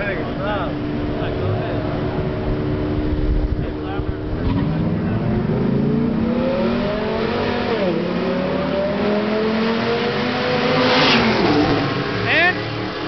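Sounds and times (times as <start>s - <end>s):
car engines at full throttle: 0.0s - 13.0s.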